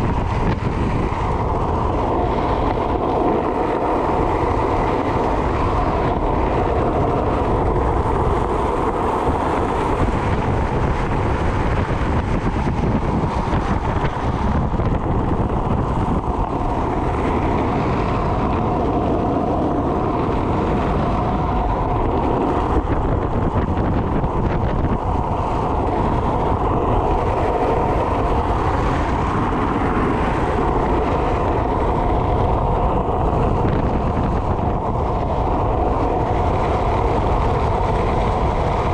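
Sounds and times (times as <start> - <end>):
wheels rolling over rough asphalt: 0.0 - 38.9
wind on microphone: 0.0 - 38.9.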